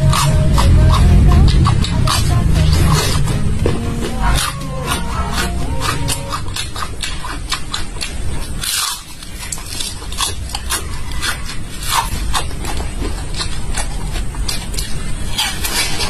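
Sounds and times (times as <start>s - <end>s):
garlic crunching: 0.0s - 16.0s.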